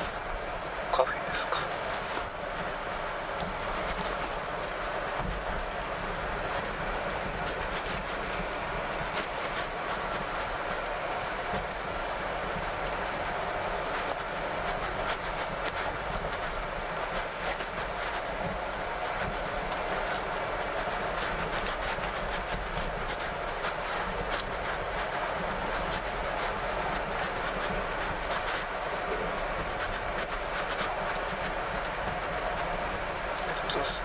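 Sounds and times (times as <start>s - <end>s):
road and tyre noise: 0.0s - 34.0s.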